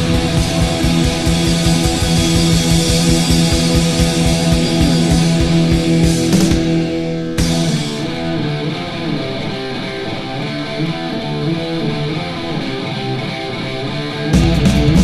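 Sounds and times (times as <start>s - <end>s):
electric guitar notes ringing: 0.0s - 15.0s.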